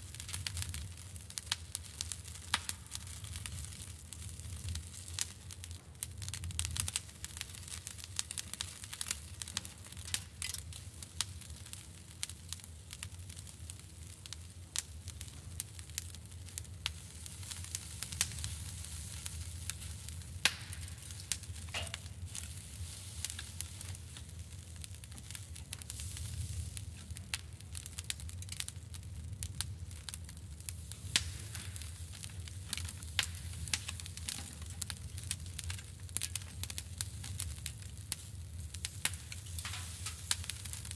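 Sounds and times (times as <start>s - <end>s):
sausage sizzling on a grill: 0.0s - 40.9s
sharp crackles and pops: 0.0s - 40.9s.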